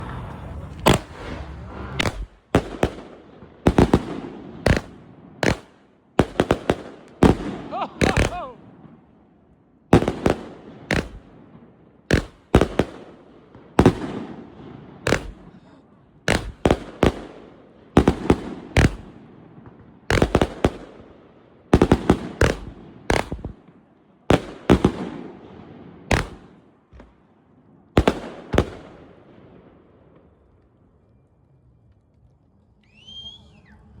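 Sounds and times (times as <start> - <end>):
fireworks banging and crackling: 0.0 - 9.2, 9.9 - 31.0.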